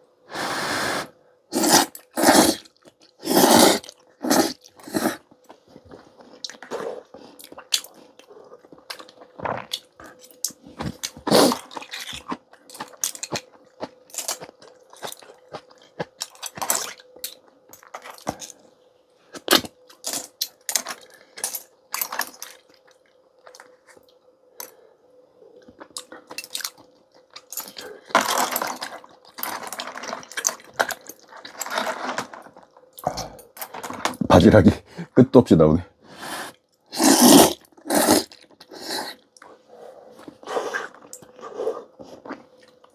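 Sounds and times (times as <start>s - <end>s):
close eating sounds: 0.3s - 35.2s, 36.0s - 42.9s.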